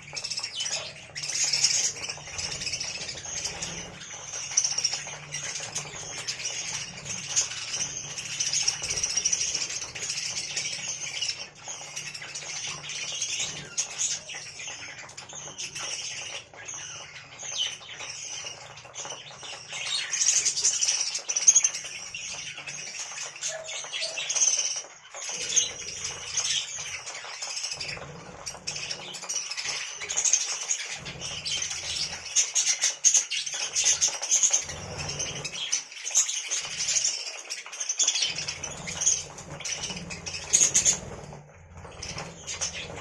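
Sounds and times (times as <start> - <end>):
budgerigars chirping and warbling: 0.0 - 43.0.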